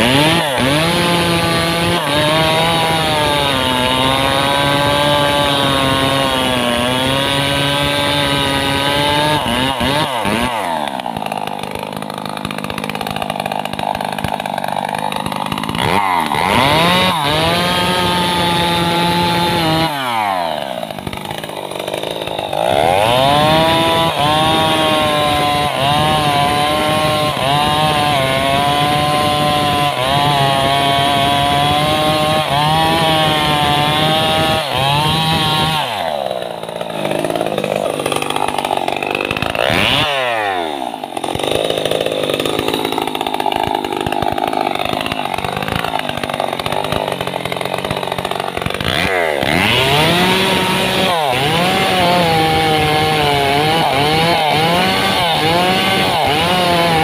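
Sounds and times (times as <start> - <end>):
chainsaw cutting into tree trunk: 0.0 - 57.0.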